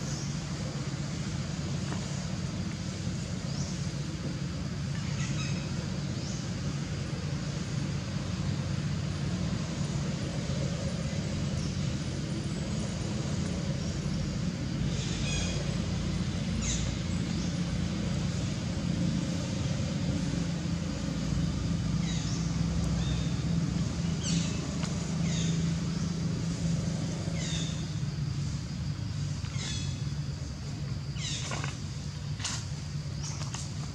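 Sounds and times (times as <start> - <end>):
low engine-like rumble: 0.0 - 33.9.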